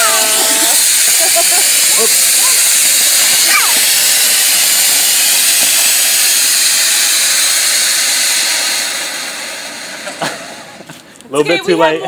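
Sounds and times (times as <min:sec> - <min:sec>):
ground firework hissing: 0:00.0 - 0:12.0.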